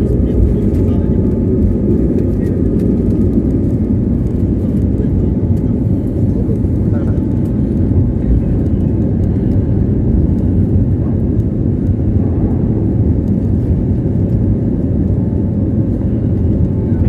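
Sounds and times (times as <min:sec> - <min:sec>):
aircraft engine rumble: 0:00.0 - 0:17.0.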